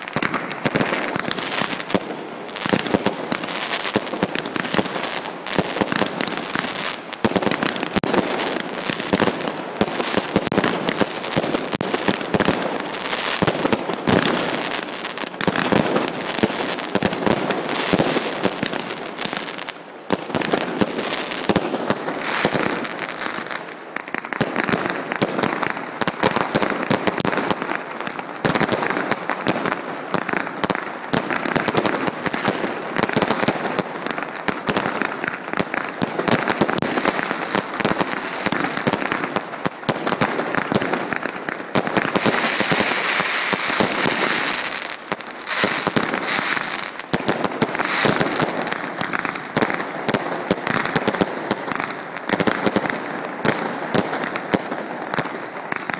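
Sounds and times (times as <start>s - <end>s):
fireworks crackling: 0.0s - 55.9s.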